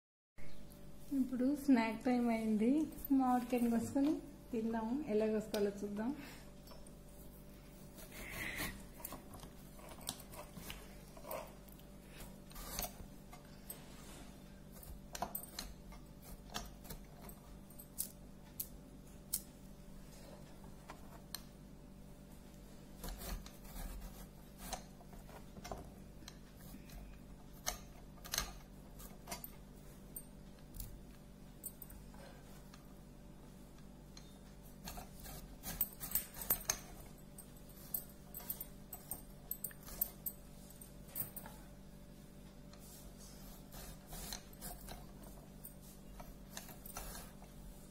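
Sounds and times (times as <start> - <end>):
faint steady hum: 0.4 - 47.9.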